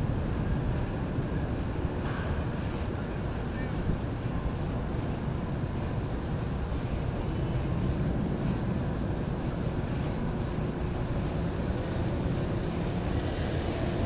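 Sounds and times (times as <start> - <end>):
boat engines droning: 0.0 - 14.0.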